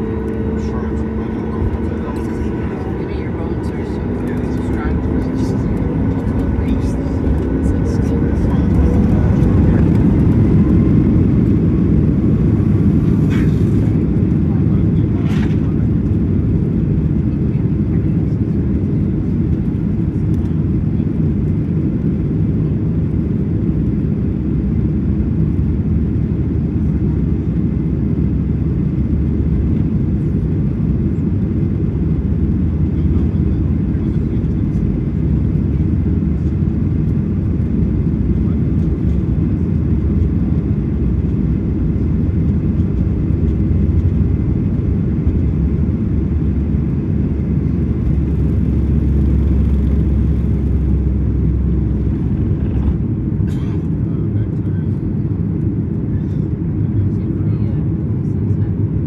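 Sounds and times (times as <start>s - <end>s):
aircraft engine rumble in cabin: 0.0s - 59.0s.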